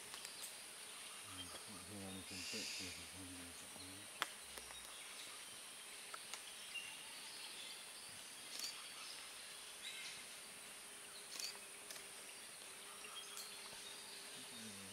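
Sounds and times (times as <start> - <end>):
high-pitched insect buzz: 0.0 - 14.9.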